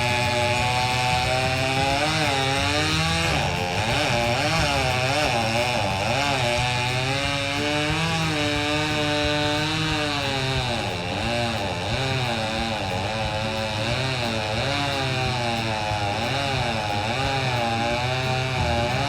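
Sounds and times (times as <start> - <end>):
chainsaw cutting tree trunk: 0.0 - 19.0.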